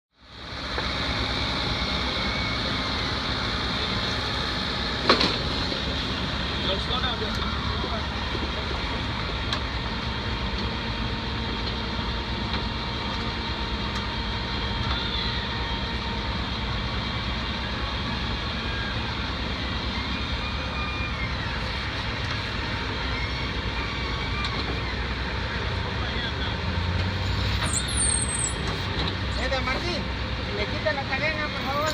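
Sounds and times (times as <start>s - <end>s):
truck engine running: 0.2s - 31.9s.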